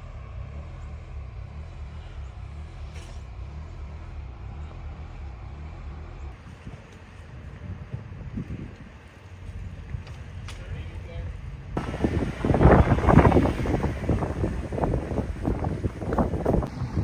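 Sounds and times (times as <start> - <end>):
motor vehicle rumbling: 0.0 - 17.0.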